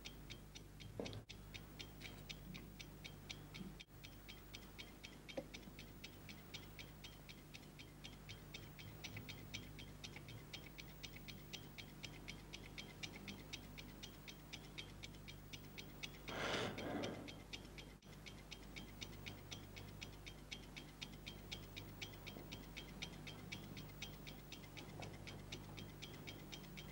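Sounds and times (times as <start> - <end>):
clock ticking fast: 0.0 - 26.9.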